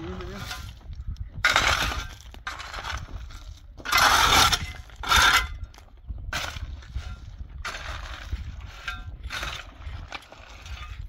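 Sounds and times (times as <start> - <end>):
shovel scraping crushed stone: 1.4 - 11.0.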